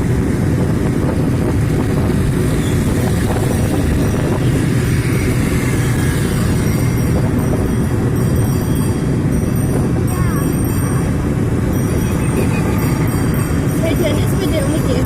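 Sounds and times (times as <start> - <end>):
vehicle road noise rumble: 0.0 - 15.0
wind buffeting microphone: 0.0 - 15.0.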